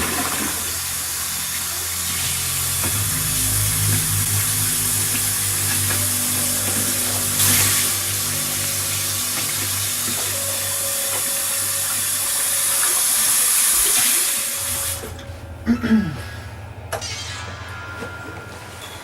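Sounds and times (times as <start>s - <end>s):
low background music: 0.0s - 19.0s.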